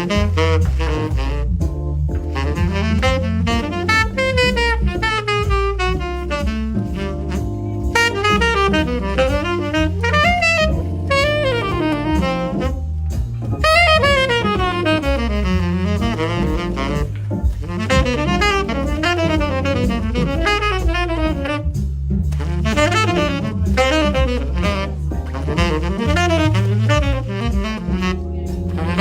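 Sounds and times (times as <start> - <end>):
tenor saxophone jazz solo: 0.0 - 29.0
walking bass line: 0.0 - 29.0.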